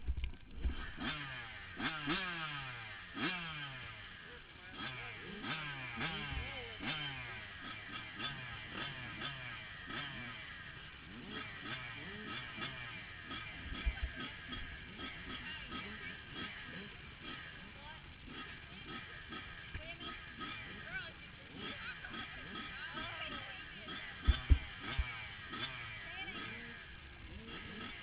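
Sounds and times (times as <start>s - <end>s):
dirt bikes racing and revving: 0.5s - 28.0s.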